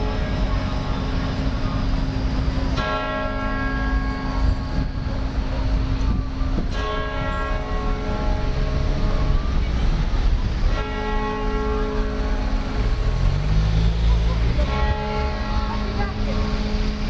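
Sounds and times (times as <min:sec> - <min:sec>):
large church bell tolling: 0:00.0 - 0:13.4, 0:14.1 - 0:17.0
low rumble of city traffic: 0:00.0 - 0:17.0.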